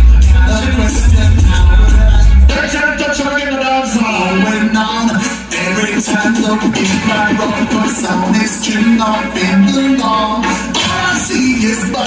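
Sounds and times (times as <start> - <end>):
dancehall music over sound system: 0.0 - 12.0
person singing: 0.0 - 12.0.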